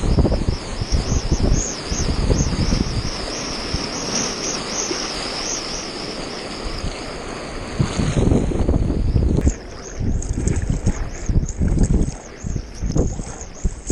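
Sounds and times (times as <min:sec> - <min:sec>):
whitewater rushing and fizzing: 0:00.0 - 0:13.9
wind buffeting microphone: 0:00.0 - 0:13.9.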